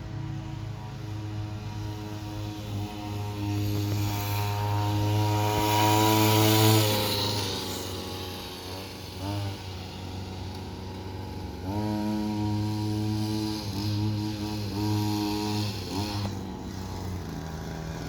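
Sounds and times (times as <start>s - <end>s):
mini bike motor running: 0.0s - 18.0s.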